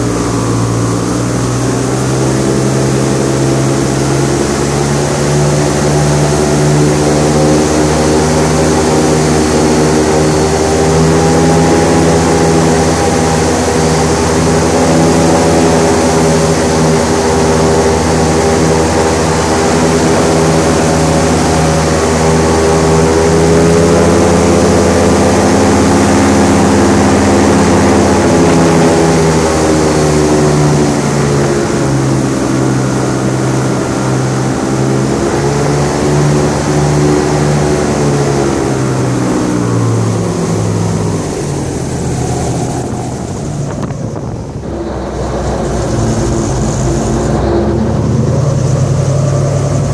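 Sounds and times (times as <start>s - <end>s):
airboat engine droning: 0.0s - 49.9s.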